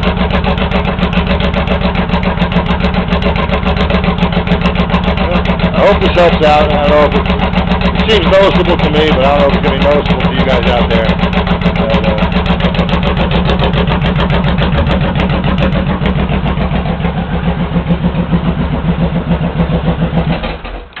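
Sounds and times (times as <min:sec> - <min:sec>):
v-twin motorcycle engine idling: 0:00.0 - 0:21.0.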